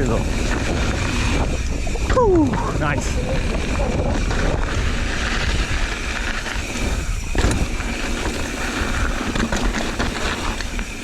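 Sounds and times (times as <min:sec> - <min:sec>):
bike rattling and knocking: 0:00.0 - 0:11.0
wind rumble on microphone: 0:00.0 - 0:11.0.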